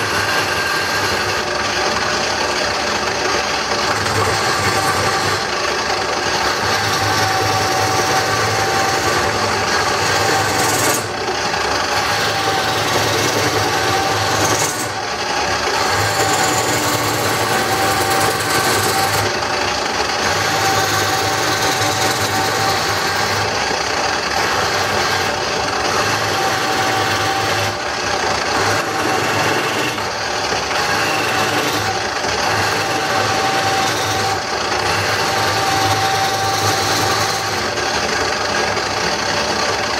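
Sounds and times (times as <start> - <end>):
lathe motor hum: 0.0 - 39.9
turning tool scraping wood: 0.0 - 39.9.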